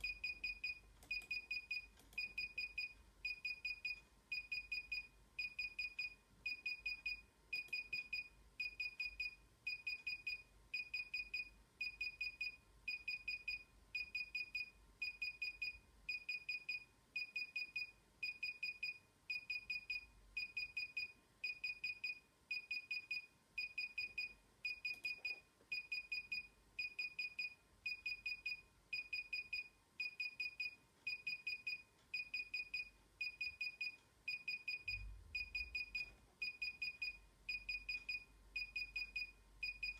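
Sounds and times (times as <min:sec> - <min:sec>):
remote controller high beeps: 0:00.0 - 0:39.9.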